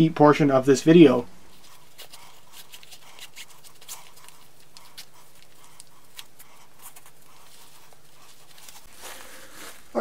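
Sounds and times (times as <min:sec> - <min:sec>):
low steady hum: 0:00.0 - 0:10.0
shoelaces rustling: 0:01.5 - 0:10.0.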